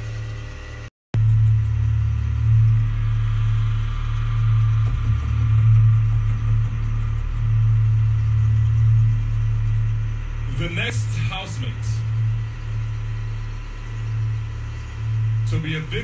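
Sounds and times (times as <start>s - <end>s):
low suspense drone: 0.0s - 16.0s.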